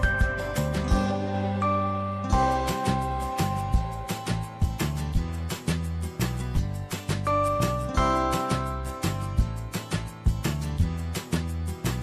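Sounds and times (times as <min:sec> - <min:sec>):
music with a steady beat: 0:00.0 - 0:12.0.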